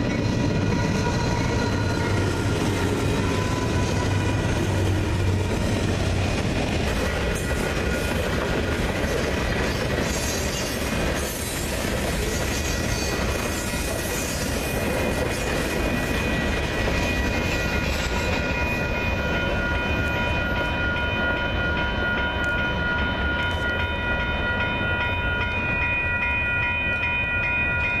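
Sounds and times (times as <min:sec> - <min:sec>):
crossing warning bell ringing: 0:00.0 - 0:28.0
train wheels rumbling on rails: 0:00.0 - 0:28.0.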